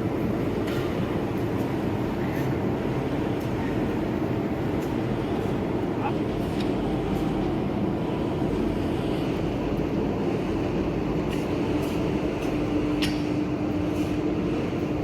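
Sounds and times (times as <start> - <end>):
mechanical running noise with hum: 0.0 - 15.0.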